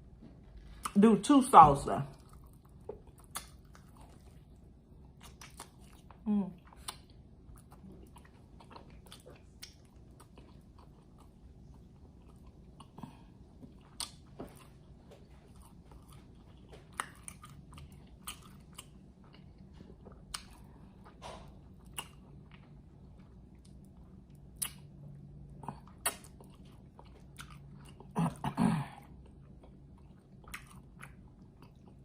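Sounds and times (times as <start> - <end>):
low steady hum: 0.0 - 32.0
person chewing food: 2.1 - 32.0.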